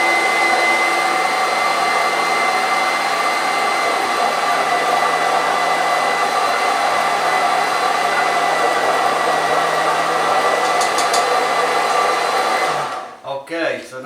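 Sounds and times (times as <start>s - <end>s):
blender motor running: 0.0s - 13.2s.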